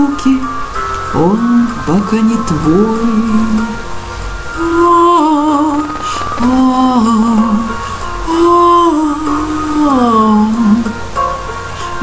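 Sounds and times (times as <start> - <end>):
woman singing a lullaby: 0.0 - 11.2
soft musical accompaniment: 0.0 - 12.0.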